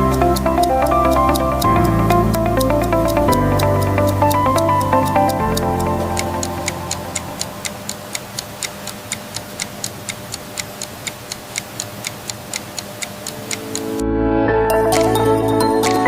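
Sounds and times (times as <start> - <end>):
clock-like ticking: 0.0 - 14.0.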